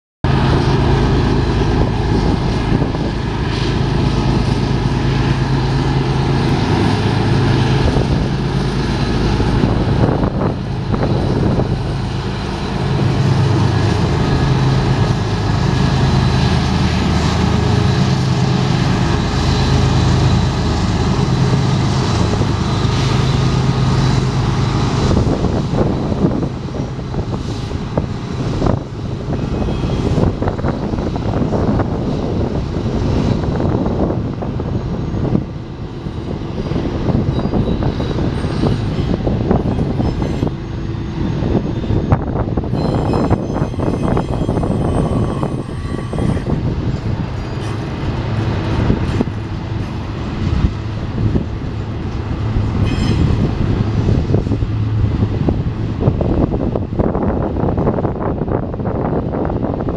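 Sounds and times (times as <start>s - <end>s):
diesel locomotive engines droning: 0.2s - 59.9s
train wheels clicking on rail joints: 1.8s - 58.1s.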